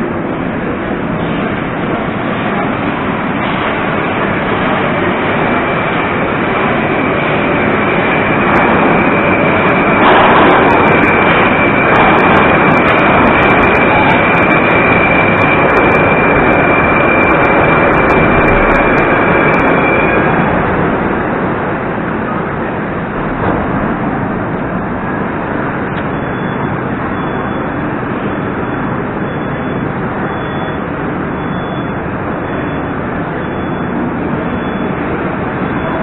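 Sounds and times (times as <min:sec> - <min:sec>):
train on rails: 0:00.0 - 0:29.2
steady high whine: 0:00.0 - 0:36.0.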